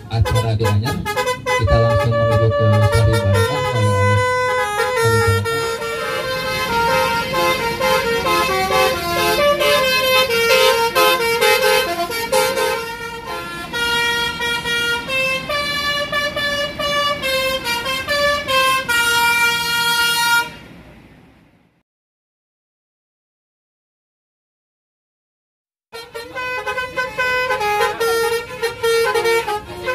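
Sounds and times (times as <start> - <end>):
musical air horn playing a tune: 0.0 - 20.6, 26.0 - 29.9.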